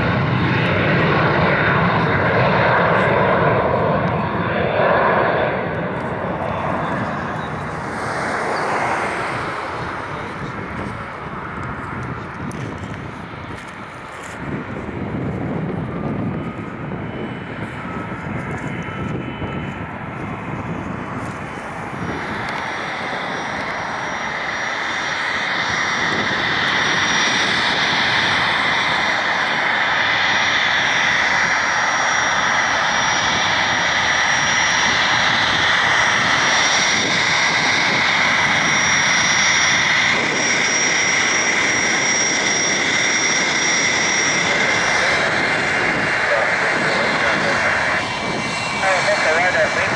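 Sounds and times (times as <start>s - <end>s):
jet engines at taxi power: 0.0s - 49.9s.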